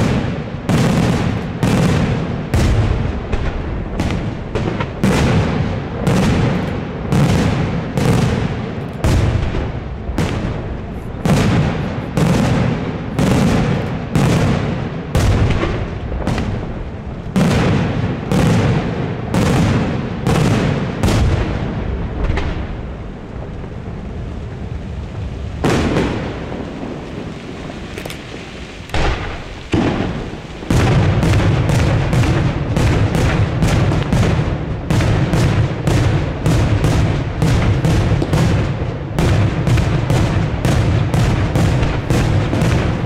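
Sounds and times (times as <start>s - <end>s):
fireworks booming with echo: 0.0s - 43.0s.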